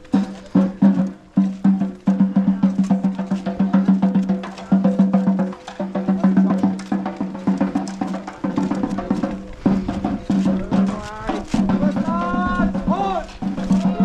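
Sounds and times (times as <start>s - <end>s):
music with fast steady beat: 0.0s - 14.0s.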